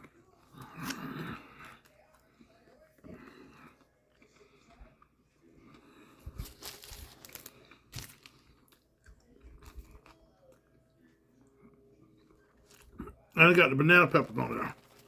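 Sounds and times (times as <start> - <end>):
person chewing food: 0.0 - 13.4.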